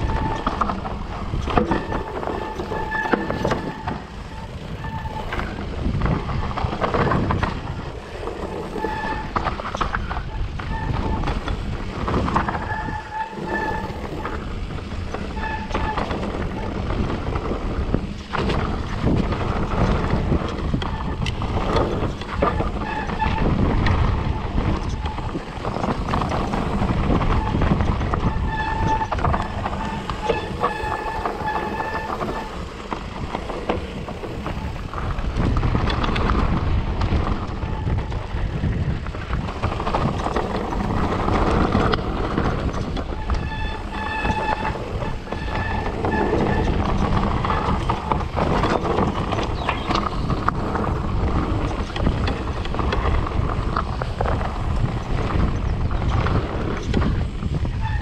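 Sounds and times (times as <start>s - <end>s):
bike frame rattling: 0.0s - 58.0s
bike tyre and wind noise: 0.0s - 58.0s.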